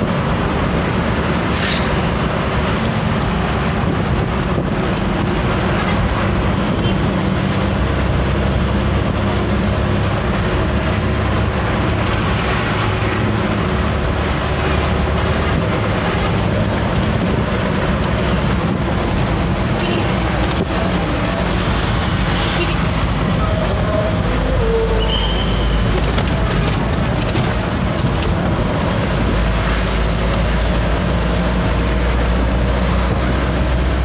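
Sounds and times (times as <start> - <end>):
truck engine and road drone: 0.0 - 34.0.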